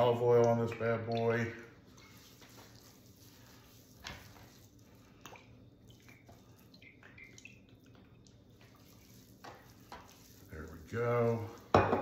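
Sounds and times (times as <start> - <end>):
oil dripping and glugging: 0.0 - 11.7.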